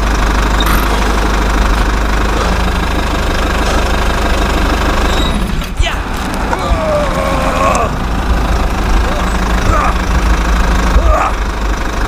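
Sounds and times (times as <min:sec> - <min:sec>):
engine low rumble: 0:00.0 - 0:12.0.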